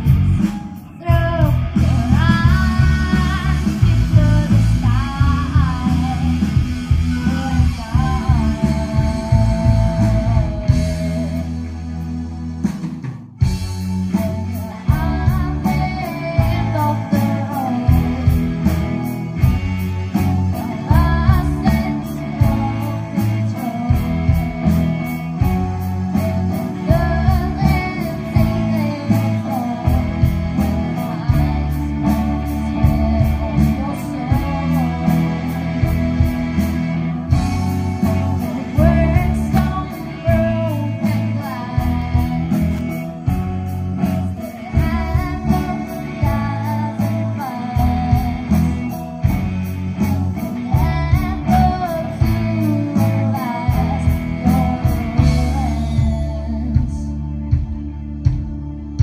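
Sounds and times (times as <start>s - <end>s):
girl singing lead: 0.0s - 12.8s, 13.4s - 59.0s
live rock band playing: 0.0s - 59.0s.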